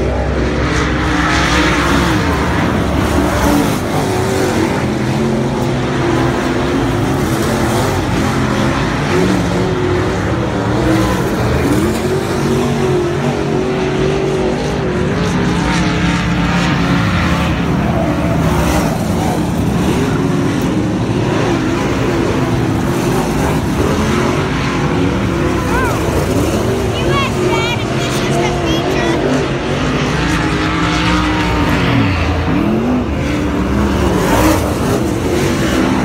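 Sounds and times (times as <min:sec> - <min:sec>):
race car engines droning: 0:00.0 - 0:36.0.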